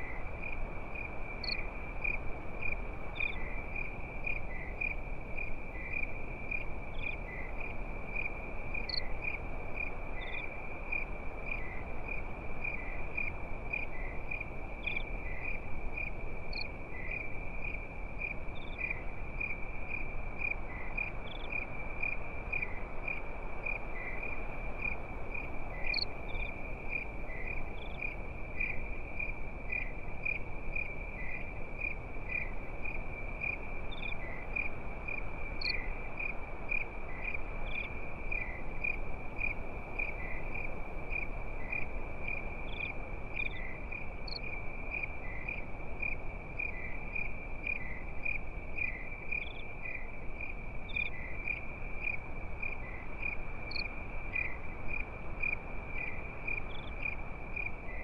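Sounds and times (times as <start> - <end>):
background hiss: 0.0 - 58.0
crickets chirping: 0.0 - 58.0.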